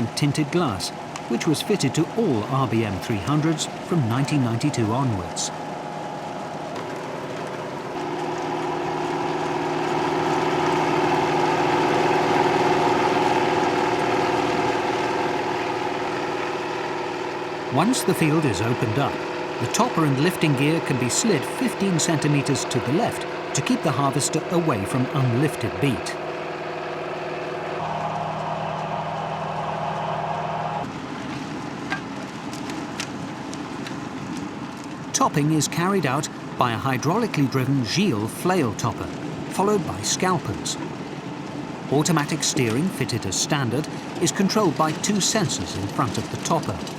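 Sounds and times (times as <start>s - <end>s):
harvester engine running: 0.0s - 46.9s
harvester machinery noise: 0.0s - 46.9s.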